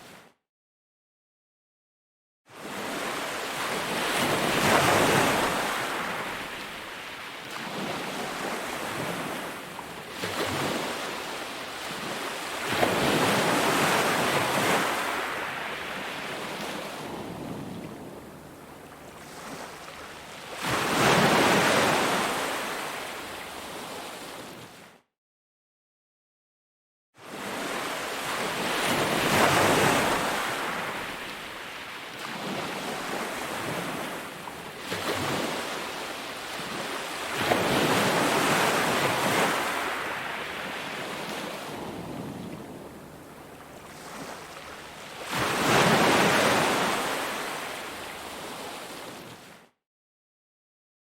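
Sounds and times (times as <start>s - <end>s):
ocean waves breaking on beach: 2.5s - 24.9s, 27.2s - 49.7s.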